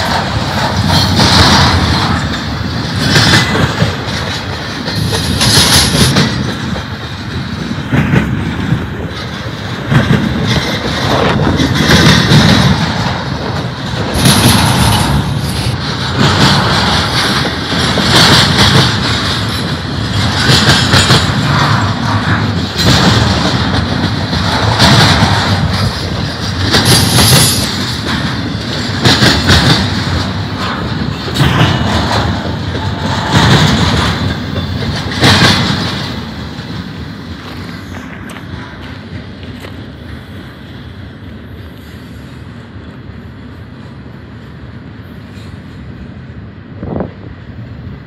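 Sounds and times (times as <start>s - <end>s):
train wheels clattering on track: 0.0s - 48.0s.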